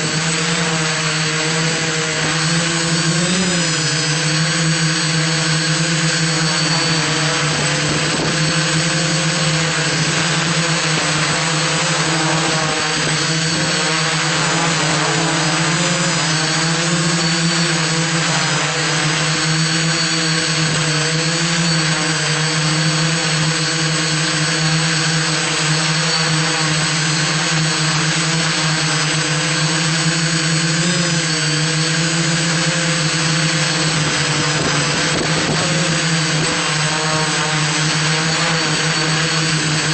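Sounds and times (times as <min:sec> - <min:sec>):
drone motors buzzing whir: 0:00.0 - 0:39.9.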